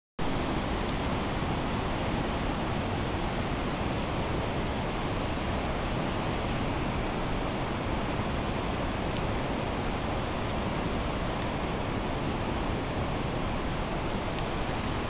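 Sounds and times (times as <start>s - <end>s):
water rushing through rapids: 0.2s - 15.0s.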